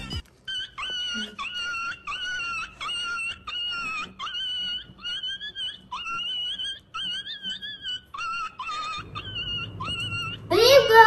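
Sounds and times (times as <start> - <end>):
high-pitched wailing cry: 0.0 - 11.0.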